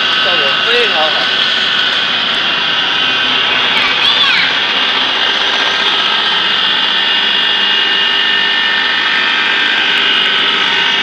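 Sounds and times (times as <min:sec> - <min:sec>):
grinding machine whining: 0:00.0 - 0:11.0
grinding noise: 0:00.0 - 0:11.0.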